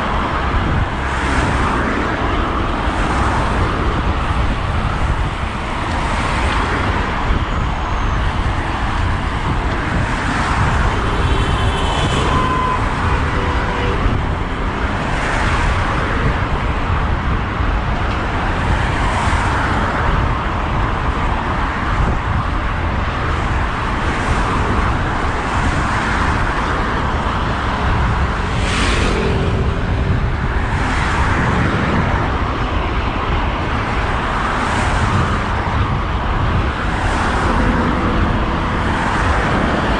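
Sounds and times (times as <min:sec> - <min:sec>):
cars passing: 0:00.0 - 0:39.9
wind on microphone: 0:00.0 - 0:39.9.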